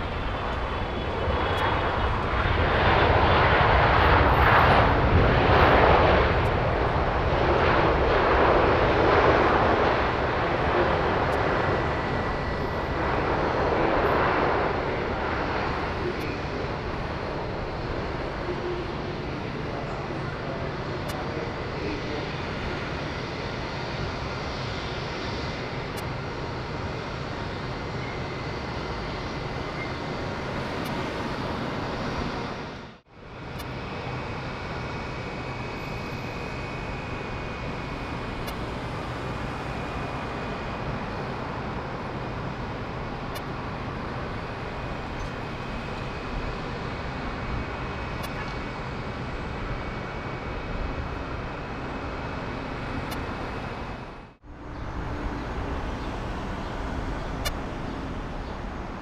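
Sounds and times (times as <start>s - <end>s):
airliner engines rumbling with whine: 0.0s - 59.0s.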